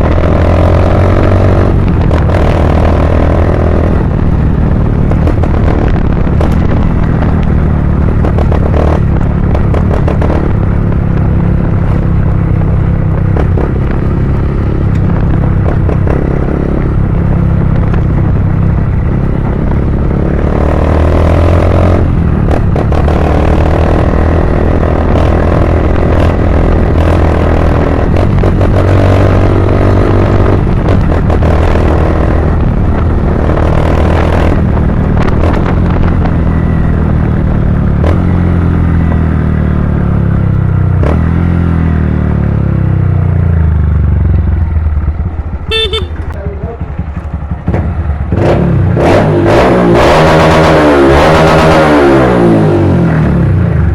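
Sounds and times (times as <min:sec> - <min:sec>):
motorcycle engine deep rumble: 0:00.0 - 0:53.9.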